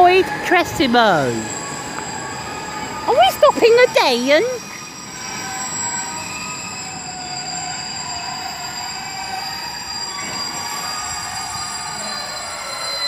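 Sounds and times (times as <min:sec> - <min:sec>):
freight train wagons rolling: 0:00.0 - 0:13.0
high-pitched wheel squeal: 0:00.0 - 0:13.0.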